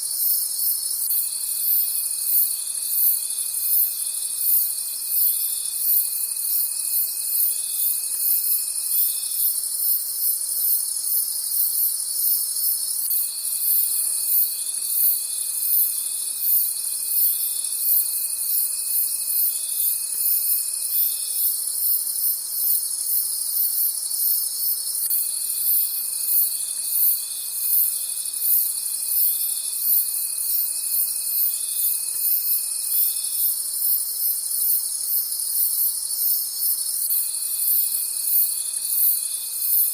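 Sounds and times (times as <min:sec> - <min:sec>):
crickets chirping: 0:00.0 - 0:39.9
high insect trills: 0:00.0 - 0:39.9
low insect trill: 0:00.0 - 0:39.9.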